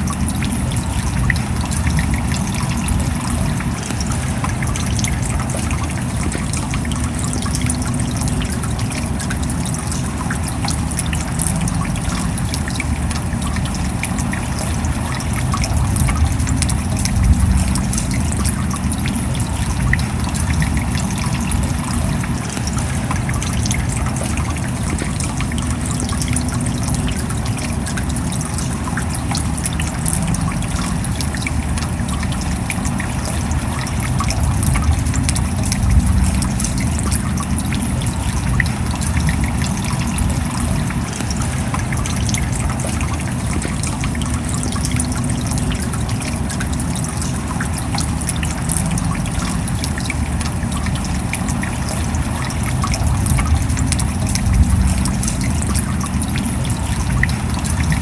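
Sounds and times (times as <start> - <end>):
raindrop impacts: 0.0 - 58.0
steady rain: 0.0 - 58.0.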